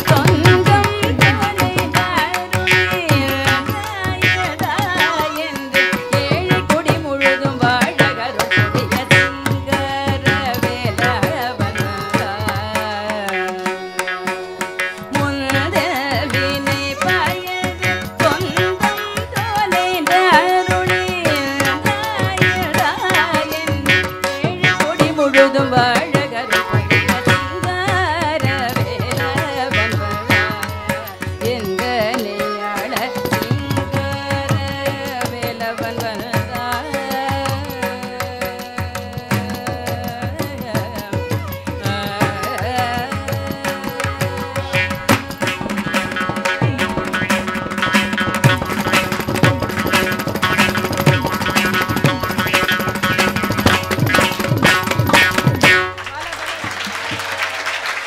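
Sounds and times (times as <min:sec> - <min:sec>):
woman singing: 0:00.0 - 0:56.3
hand drums playing fast strokes: 0:00.0 - 0:57.3
violin: 0:00.0 - 0:57.8.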